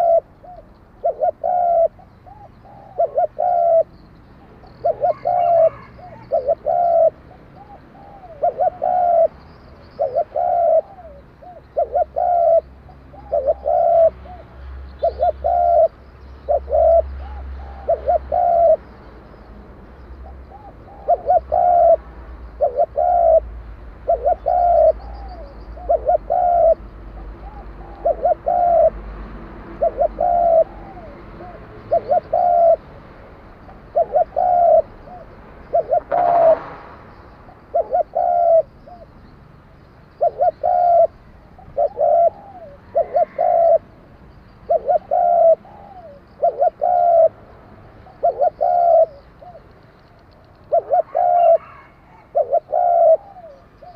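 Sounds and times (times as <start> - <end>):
dove cooing: 0.0 - 18.8, 20.2 - 29.1, 29.7 - 33.0, 33.6 - 36.7, 37.5 - 39.2, 40.2 - 44.0, 44.6 - 47.4, 48.0 - 49.7, 50.5 - 53.9.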